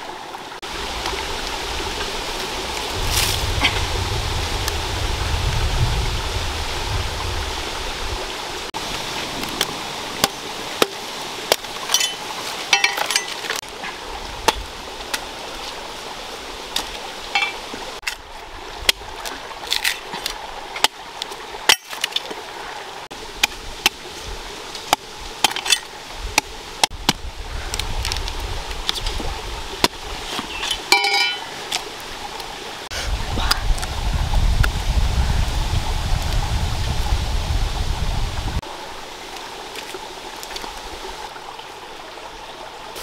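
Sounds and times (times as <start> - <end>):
stream running over rocks: 0.0 - 43.0.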